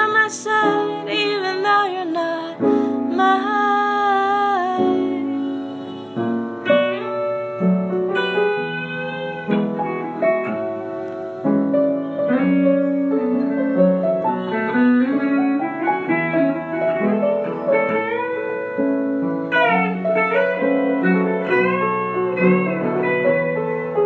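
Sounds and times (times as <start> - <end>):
plucked guitar melody: 0.0 - 24.0.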